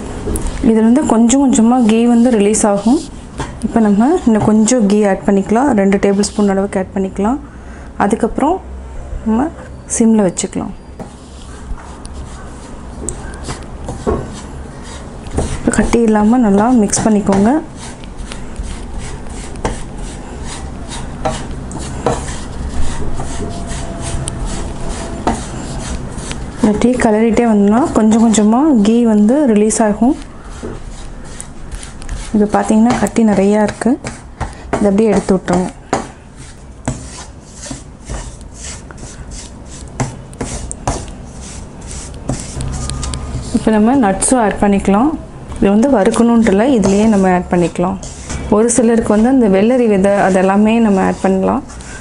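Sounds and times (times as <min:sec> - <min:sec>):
wooden spatula scraping pan: 0:00.8 - 0:05.0, 0:11.0 - 0:29.0, 0:29.6 - 0:43.9, 0:46.1 - 0:52.0.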